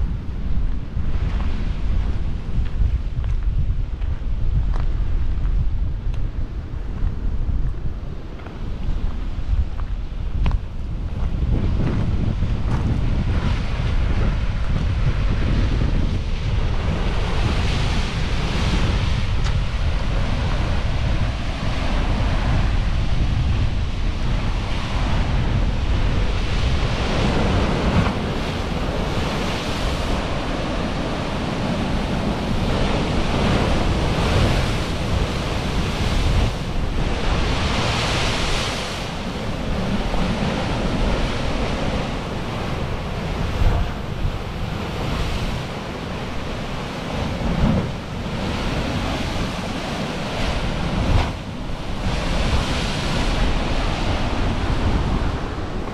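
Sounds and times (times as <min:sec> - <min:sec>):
wind buffeting microphone: 0:00.0 - 0:55.9
sea waves breaking on rocks: 0:09.8 - 0:55.9.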